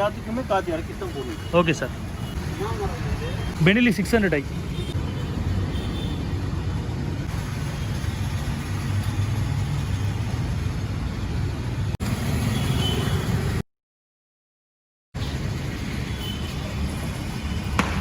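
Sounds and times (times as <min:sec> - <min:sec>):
road traffic rumble: 0:00.0 - 0:13.6, 0:15.2 - 0:18.0.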